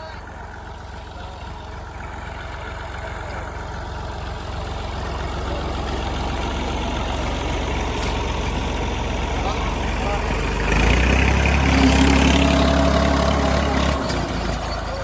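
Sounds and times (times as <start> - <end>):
tractor engine throbbing: 0.0 - 15.0.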